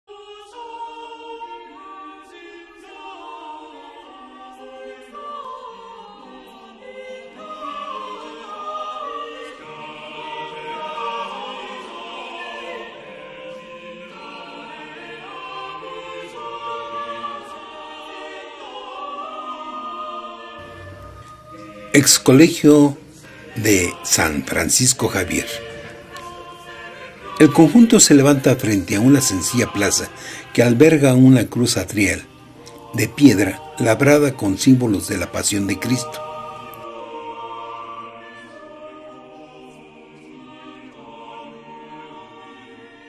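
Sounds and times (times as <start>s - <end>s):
choir singing held notes: 0.1s - 43.0s.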